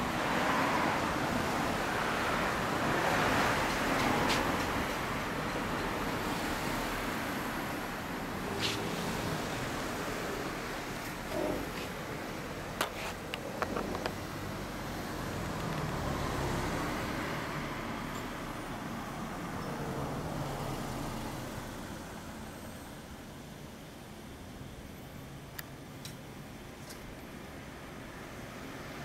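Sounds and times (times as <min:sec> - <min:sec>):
road traffic rushing: 0:00.0 - 0:29.0.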